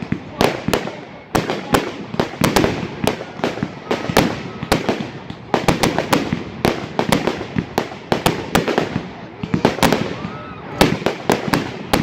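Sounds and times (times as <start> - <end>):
fireworks bangs and cracks: 0.0 - 12.0
fireworks crackling: 0.0 - 12.0.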